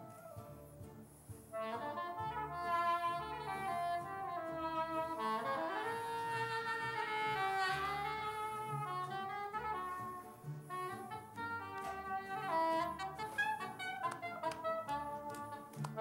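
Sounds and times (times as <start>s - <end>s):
klezmer band playing: 0.0s - 16.0s.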